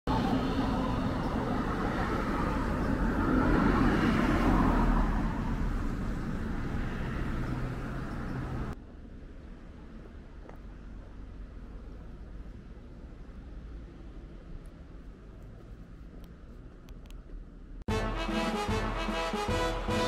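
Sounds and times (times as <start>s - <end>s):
road traffic passing: 0.1s - 20.0s.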